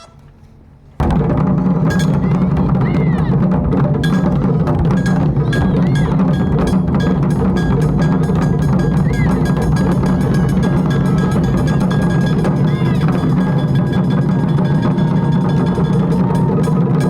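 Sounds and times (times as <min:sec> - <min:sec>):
fast taiko drumming: 0:01.0 - 0:17.0.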